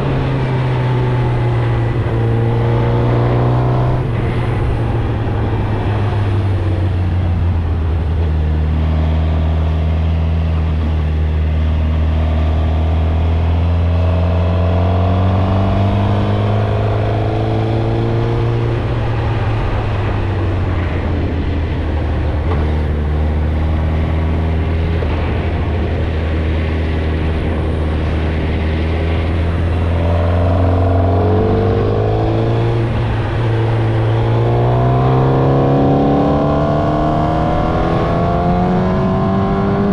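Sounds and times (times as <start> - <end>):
motorcycle engine on the move: 0.0 - 39.9.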